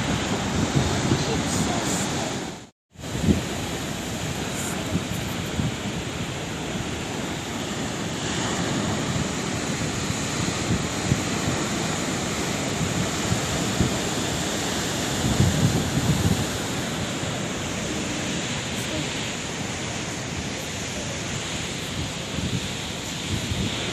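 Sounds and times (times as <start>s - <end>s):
waves breaking on shore: 0.0s - 23.9s
wind buffeting microphone: 0.0s - 23.9s.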